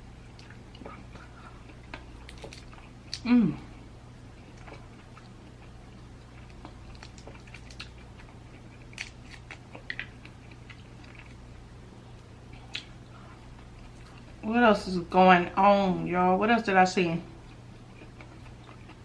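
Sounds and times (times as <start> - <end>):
low steady hum: 0.0 - 19.0
chewing crab legs: 0.2 - 14.4, 17.4 - 19.0.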